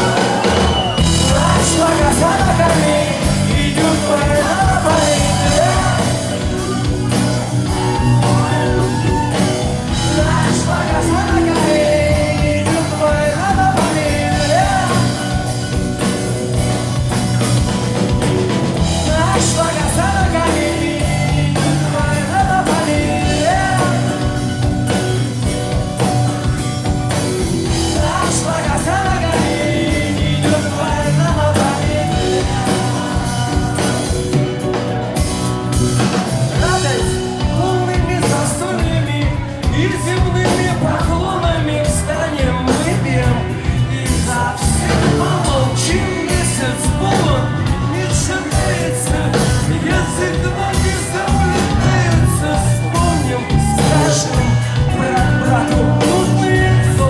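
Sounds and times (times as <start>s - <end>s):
person singing: 0.0s - 57.0s
rock band playing live: 0.0s - 57.0s.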